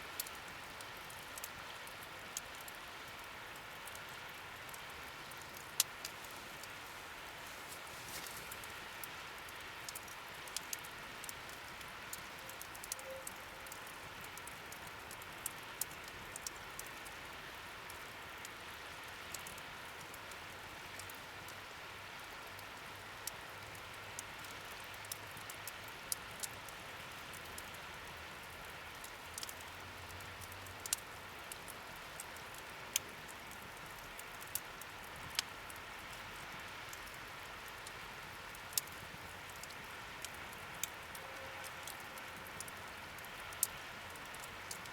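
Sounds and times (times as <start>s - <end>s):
wood fire crackling and popping: 0.1s - 21.6s, 22.4s - 44.9s.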